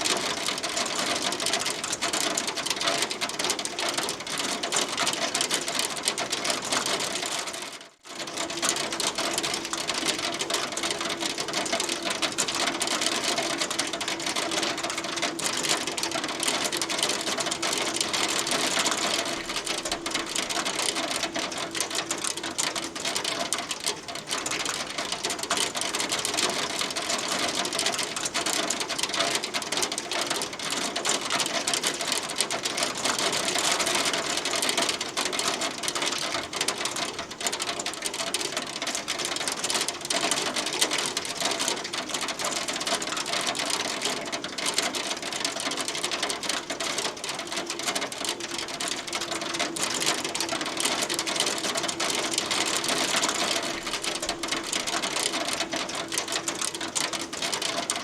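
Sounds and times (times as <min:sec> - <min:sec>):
hail clattering on hard surface: 0:00.0 - 0:58.0.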